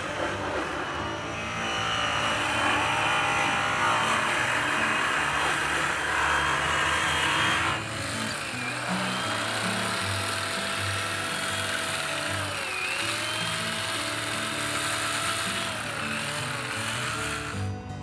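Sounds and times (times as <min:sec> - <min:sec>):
electric polisher whirring on metal: 0:00.0 - 0:17.7.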